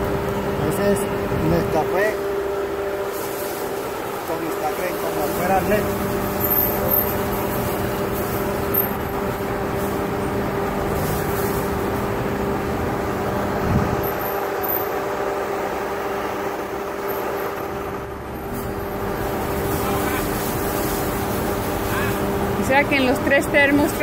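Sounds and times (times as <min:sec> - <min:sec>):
street traffic engine hum: 0:00.0 - 0:24.0.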